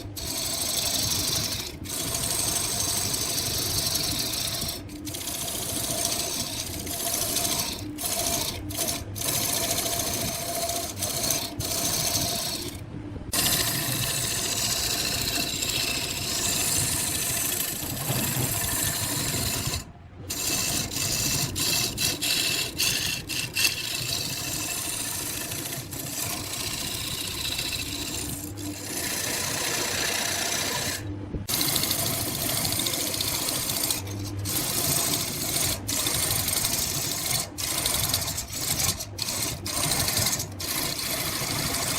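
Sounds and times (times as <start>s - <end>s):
wood lathe tool cutting wood: 0.0s - 41.9s.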